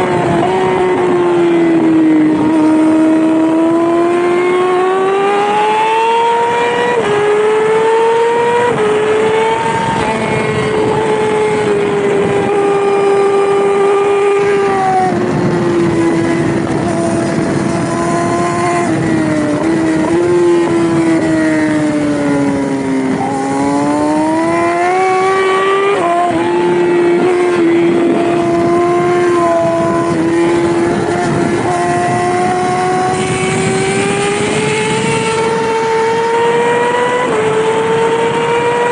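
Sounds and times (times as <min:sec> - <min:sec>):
motorcycle engine at high revs: 0:00.0 - 0:38.9.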